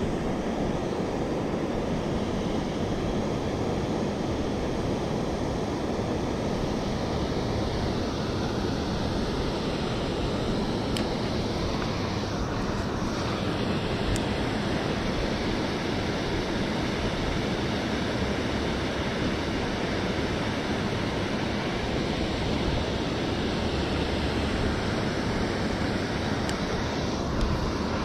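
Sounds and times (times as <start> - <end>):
water rushing over spillway: 0.0 - 28.0.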